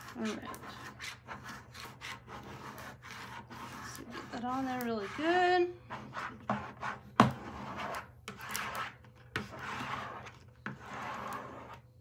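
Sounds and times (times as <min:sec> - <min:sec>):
plastic squeegee scraping tape: 0:00.0 - 0:05.3, 0:06.0 - 0:11.9.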